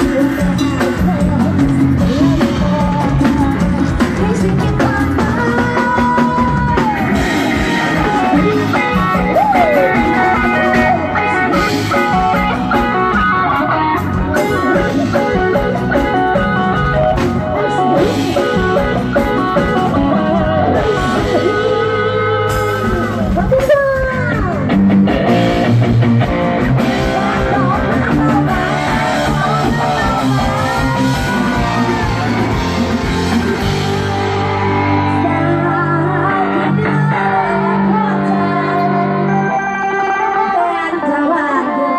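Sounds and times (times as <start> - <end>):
person singing: 0.0 - 24.6, 26.7 - 41.9
drum kit: 0.0 - 38.4
electric guitar: 0.0 - 41.9.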